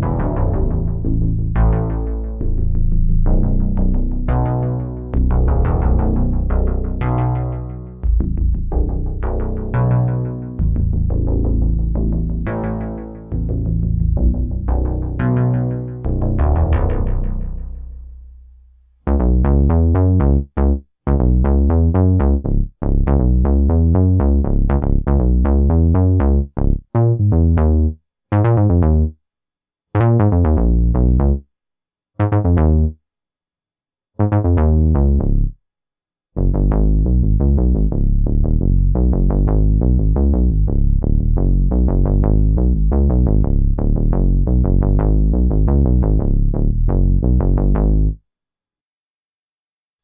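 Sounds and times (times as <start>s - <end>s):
synthesizer bass notes: 0.0s - 29.1s, 30.0s - 31.4s, 32.2s - 33.0s, 34.2s - 35.5s, 36.4s - 48.2s.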